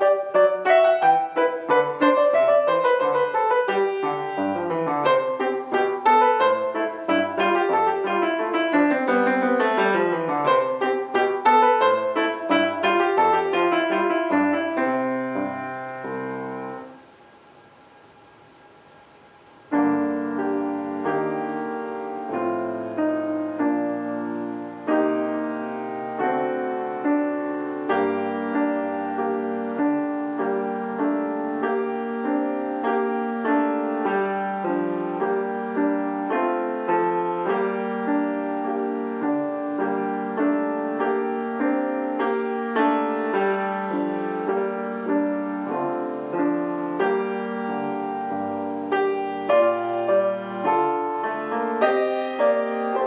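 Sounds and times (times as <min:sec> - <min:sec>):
solo classical piano piece: 0:00.0 - 0:53.0.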